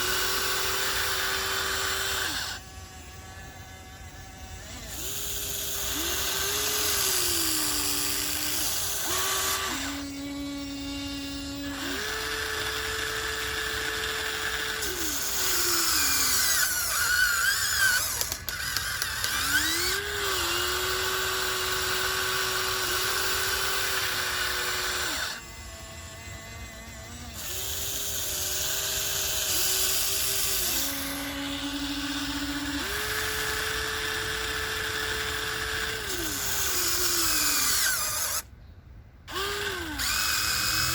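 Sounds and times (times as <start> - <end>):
small electric motors whining: 0.0 - 38.6, 39.2 - 40.9.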